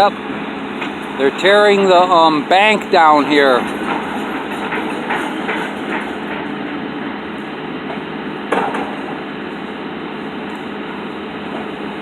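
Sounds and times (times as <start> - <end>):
engine-like hum: 0.0 - 12.0.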